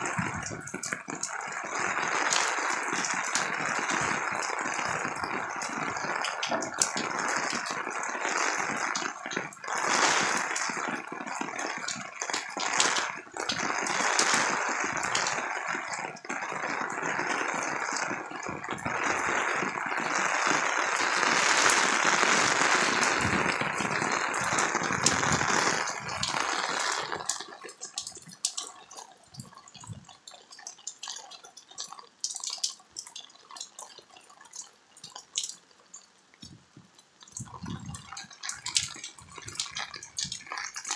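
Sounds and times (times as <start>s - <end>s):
heavy rain pouring: 0.0s - 40.9s
water dripping onto wooden deck: 0.0s - 40.9s.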